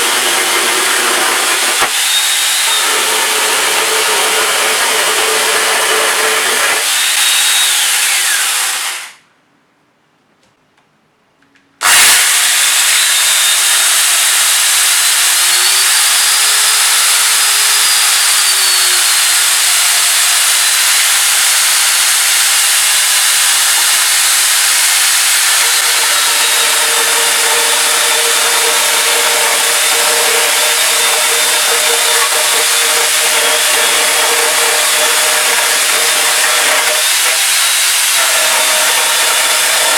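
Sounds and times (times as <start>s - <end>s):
grinder chain cutting wood: 0.0s - 9.2s, 11.8s - 39.9s.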